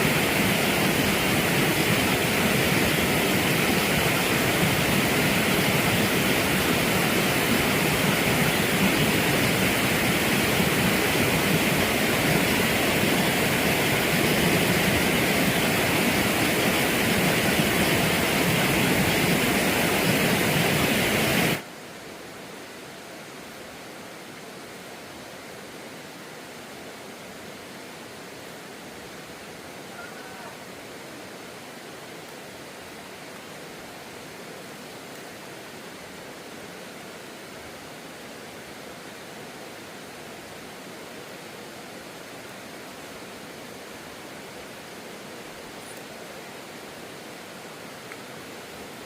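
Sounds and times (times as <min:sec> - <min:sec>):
quiet hiss: 0:00.0 - 0:49.0
rushing water: 0:00.0 - 0:49.0.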